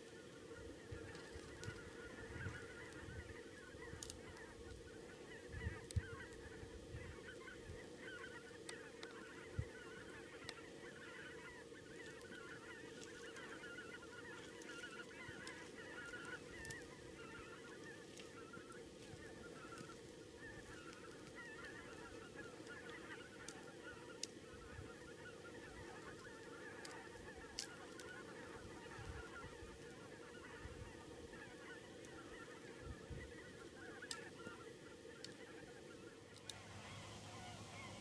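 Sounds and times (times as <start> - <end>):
geese honking: 0.0 - 38.0.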